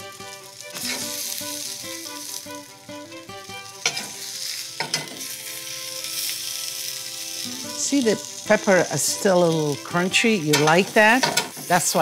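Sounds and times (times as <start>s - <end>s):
soft background music: 0.0s - 12.0s
vegetables sizzling in a skillet: 0.0s - 12.0s
metal spoon scraping a skillet: 0.6s - 2.4s, 3.6s - 12.0s.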